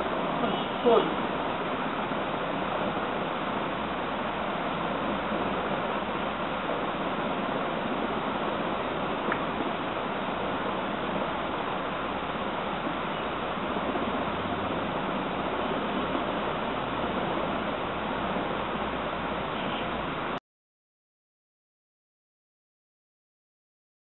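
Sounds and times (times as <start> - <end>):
steady background hiss: 0.0 - 20.4.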